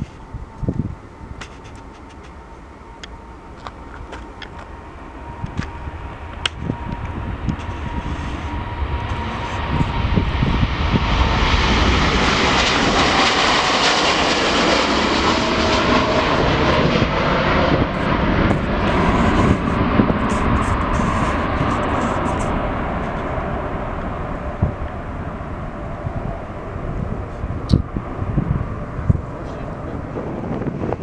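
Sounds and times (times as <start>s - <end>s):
airliner engines roaring: 0.0s - 31.0s.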